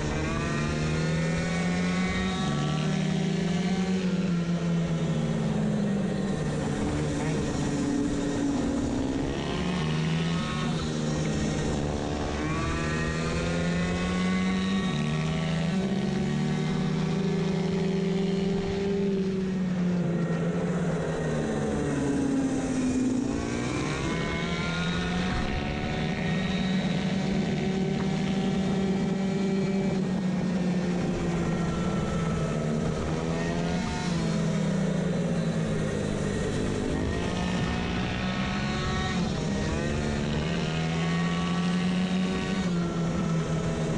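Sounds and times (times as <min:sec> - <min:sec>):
two-stroke moped engine revving: 0:00.0 - 0:43.9.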